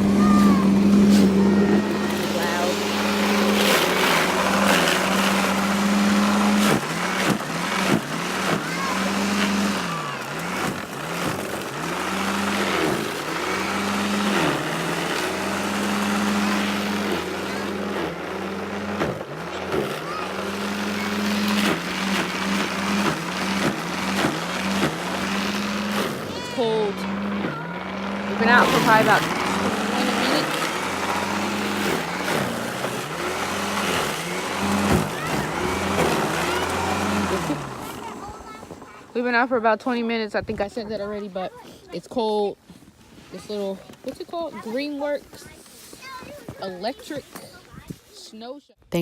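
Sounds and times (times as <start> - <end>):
electric snow shovel motor hum: 0.0 - 47.8.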